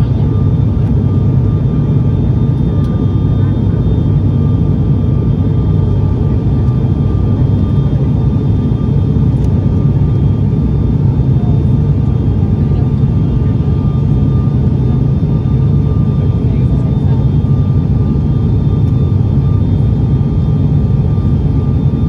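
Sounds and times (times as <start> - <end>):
propeller engine drone: 0.0 - 22.0.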